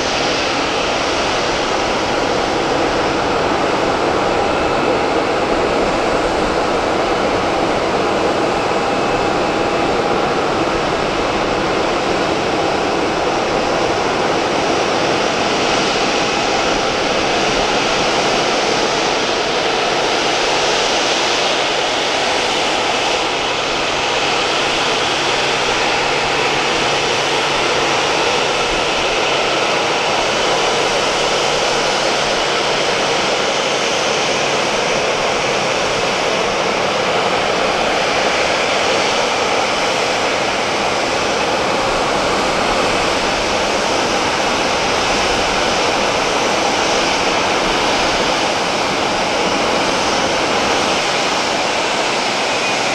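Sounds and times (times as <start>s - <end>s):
jet engines taxiing with high whine: 0.0s - 52.9s.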